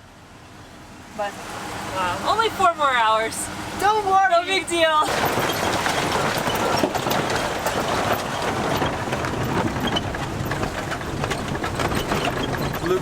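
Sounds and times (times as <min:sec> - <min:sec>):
tyres crackling on dirt road: 0:01.1 - 0:13.0
truck rattling: 0:01.5 - 0:13.0.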